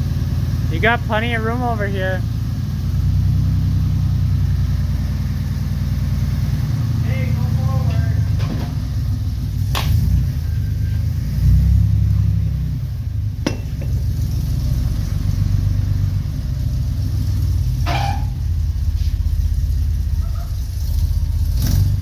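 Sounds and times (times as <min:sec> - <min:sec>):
car engine rumbling: 0:00.0 - 0:22.0.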